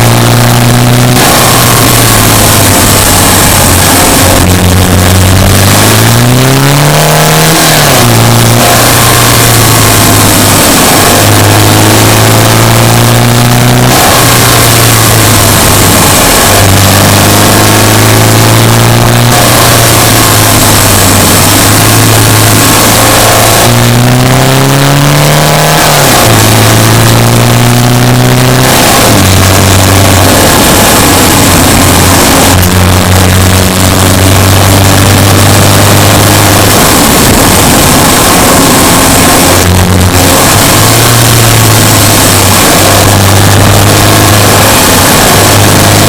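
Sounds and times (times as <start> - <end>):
car engine under load: 0.0 - 46.0.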